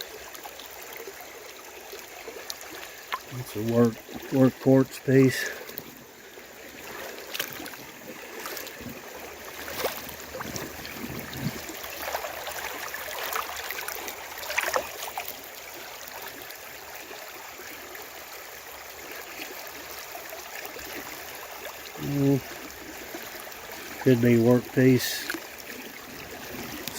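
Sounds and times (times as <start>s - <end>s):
creek water over rocks: 0.0s - 26.9s.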